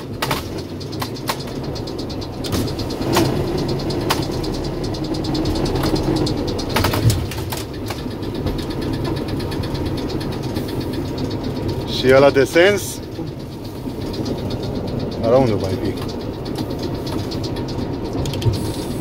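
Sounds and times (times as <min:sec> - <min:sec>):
diesel locomotive engine running: 0:00.0 - 0:19.0
sharp clicks and knocks: 0:00.0 - 0:19.0.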